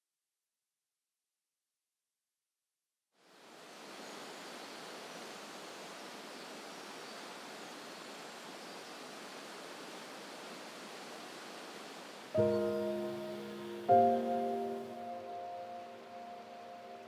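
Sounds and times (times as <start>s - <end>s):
stream running over rocks: 3.2s - 17.0s.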